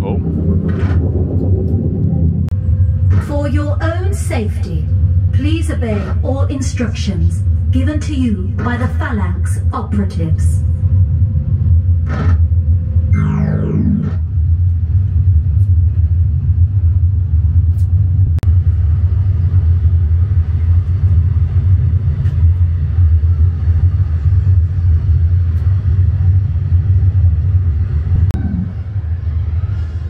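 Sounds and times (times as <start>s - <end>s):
deep bass rumble: 0.0s - 30.0s.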